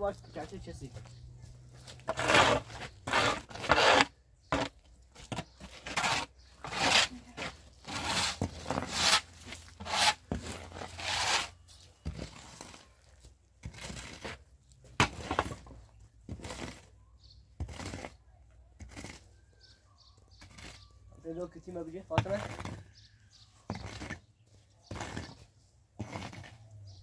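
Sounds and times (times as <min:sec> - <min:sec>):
hoes scraping mud on concrete: 0:01.8 - 0:27.0.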